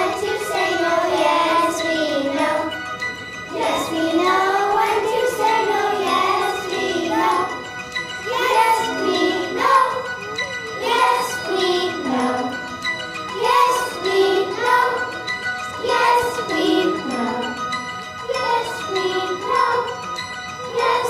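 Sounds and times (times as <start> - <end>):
children singing into microphones: 0.0 - 2.9, 3.5 - 10.2, 10.8 - 12.6, 13.3 - 17.7, 18.3 - 20.0, 20.7 - 21.0
instrumental accompaniment: 0.0 - 21.0.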